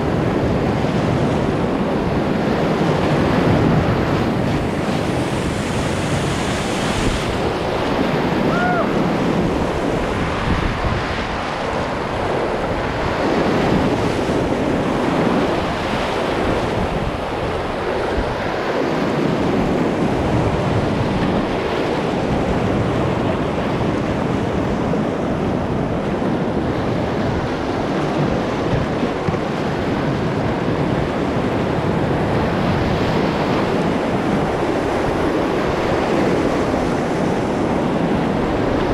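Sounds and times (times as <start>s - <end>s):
whitewater rapids roaring: 0.0s - 38.9s
wind buffeting microphone: 0.0s - 38.9s.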